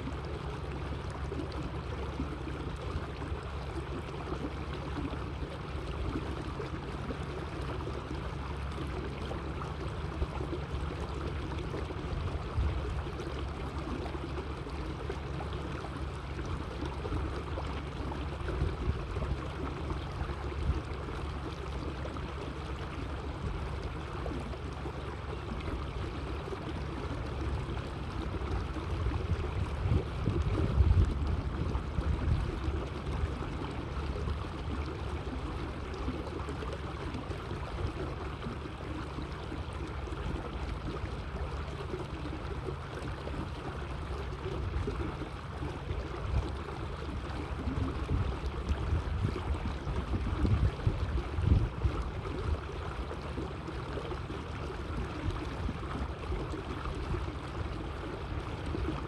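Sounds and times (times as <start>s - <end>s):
low motor rumble: 0.0s - 59.0s
water lapping along boat hull: 0.0s - 59.0s.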